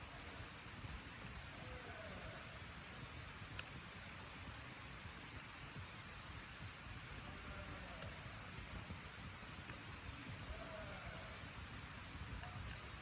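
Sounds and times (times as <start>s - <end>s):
campfire hissing and crackling: 0.0s - 13.0s.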